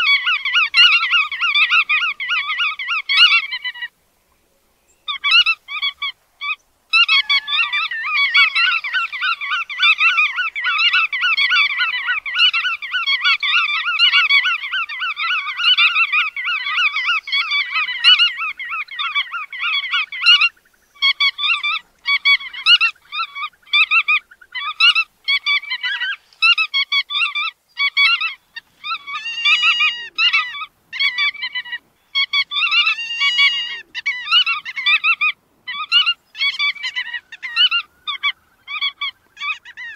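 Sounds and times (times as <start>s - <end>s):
shorebirds calling: 0.0s - 4.0s, 4.9s - 39.9s.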